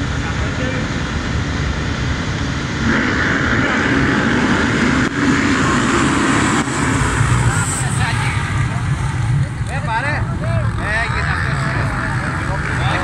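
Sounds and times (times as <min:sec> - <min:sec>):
motocross bikes at full throttle: 0:00.0 - 0:13.0.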